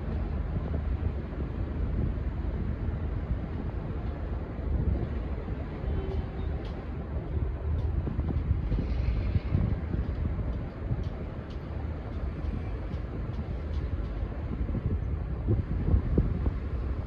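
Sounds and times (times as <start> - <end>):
train rumbling: 0.0 - 17.0
wind buffeting microphone: 0.0 - 17.0.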